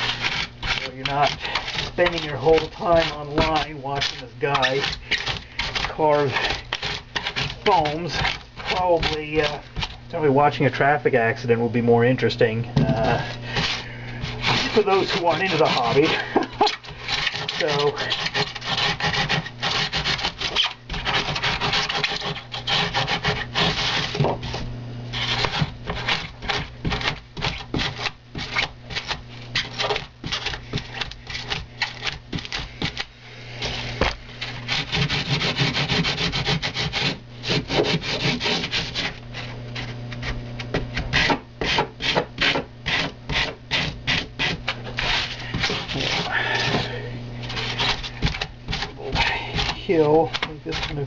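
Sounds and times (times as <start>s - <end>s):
foam board being scraped: 0.0s - 10.3s, 12.9s - 51.0s
steady low hum: 0.0s - 51.0s.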